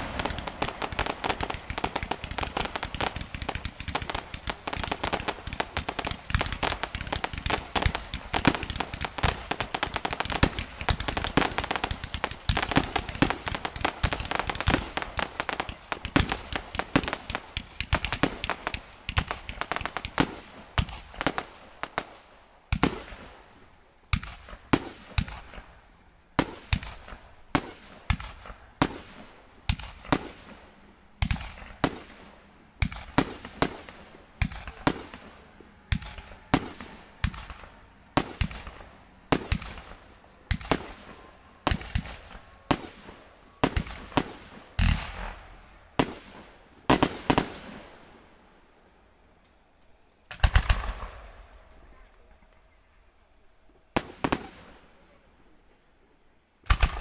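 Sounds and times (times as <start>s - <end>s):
fireworks bangs with echo: 0.0s - 23.4s, 24.1s - 25.8s, 26.4s - 48.1s, 50.3s - 52.0s, 53.9s - 54.9s, 56.7s - 57.0s.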